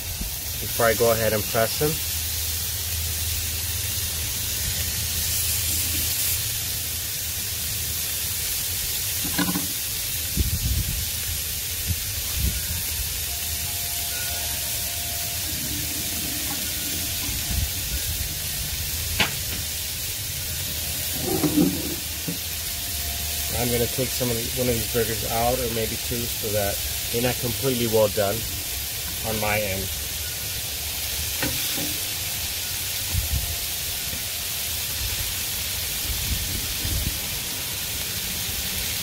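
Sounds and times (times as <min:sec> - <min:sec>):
burger patties sizzling on griddle: 0:00.0 - 0:39.0.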